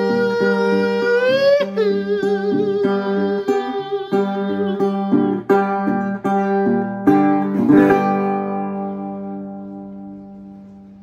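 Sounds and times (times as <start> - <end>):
resonator guitar picking: 0.0 - 11.0.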